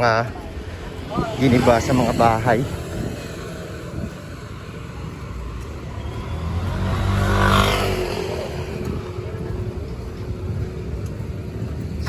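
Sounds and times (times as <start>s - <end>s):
street traffic noise: 0.0s - 12.0s
vehicle engine passing by: 0.6s - 11.8s.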